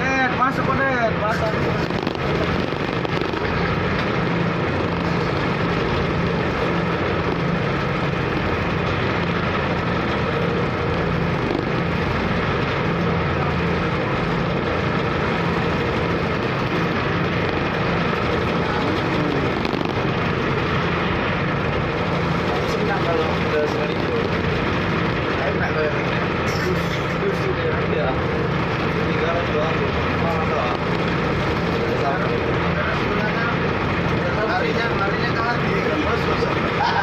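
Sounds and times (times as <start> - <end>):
ferry diesel engine droning: 0.0 - 37.0.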